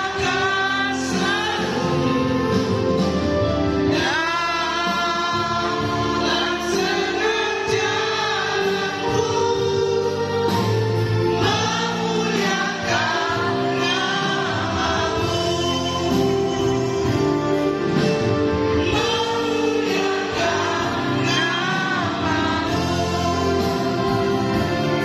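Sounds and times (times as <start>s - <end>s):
voices singing: 0.0s - 2.6s, 3.9s - 17.3s, 18.8s - 25.0s
sustained instrumental chords: 0.0s - 25.0s.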